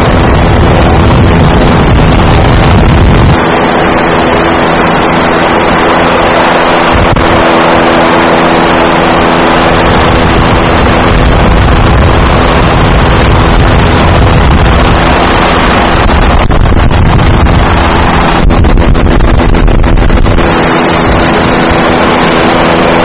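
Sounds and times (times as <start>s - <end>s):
boat engine drone: 0.0s - 23.0s
wind rushing over microphone: 0.0s - 23.0s.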